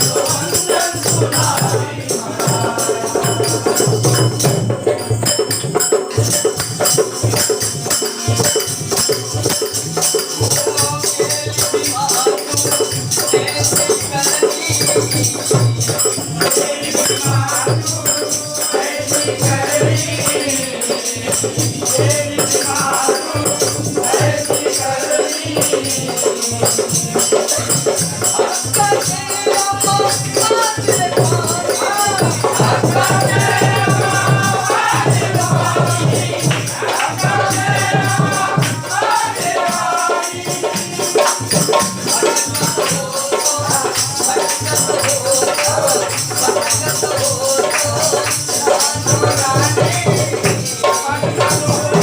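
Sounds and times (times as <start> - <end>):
jingling hand percussion: 0.0 - 52.0.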